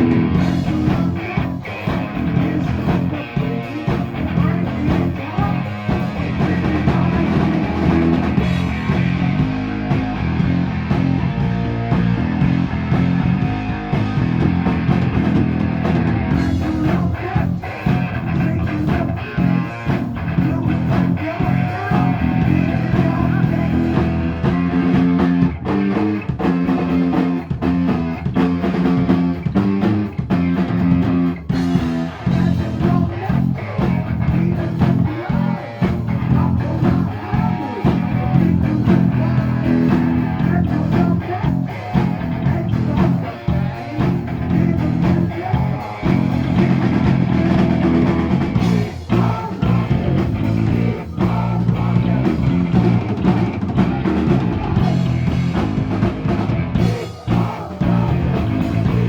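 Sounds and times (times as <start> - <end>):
bass guitar: 0.0 - 59.0
drum kit: 0.0 - 59.0
electric guitar riff: 0.0 - 59.0.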